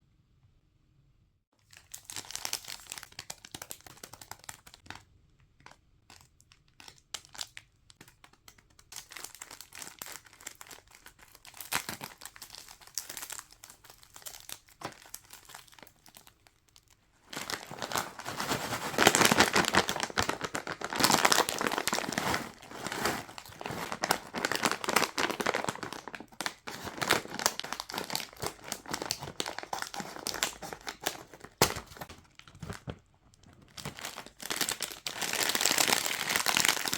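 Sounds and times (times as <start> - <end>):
plastic wrappers crinkling and tearing: 1.6 - 5.0, 5.6 - 36.9.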